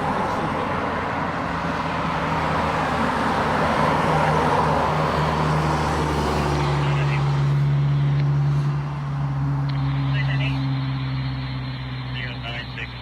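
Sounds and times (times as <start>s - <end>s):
road traffic noise: 0.0s - 13.0s
vehicle engine low hum: 0.0s - 13.0s.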